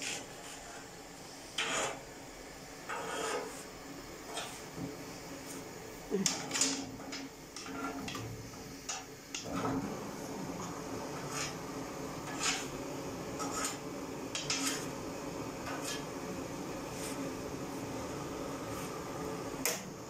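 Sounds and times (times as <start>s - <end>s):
gas burner rushing: 0.0s - 20.0s.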